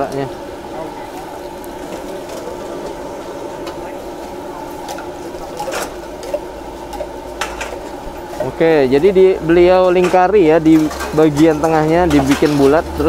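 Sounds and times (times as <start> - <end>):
oil bubbling sizzle: 0.0 - 13.0.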